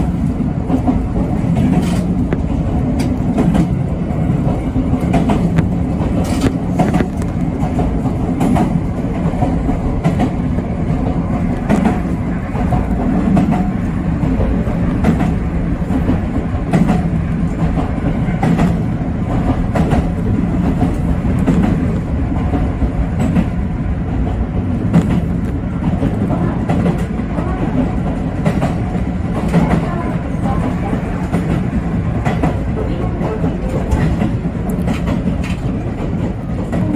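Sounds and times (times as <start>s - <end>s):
train running gear rumble and hum: 0.0s - 36.9s
wheels clicking over rail joints: 0.0s - 36.9s.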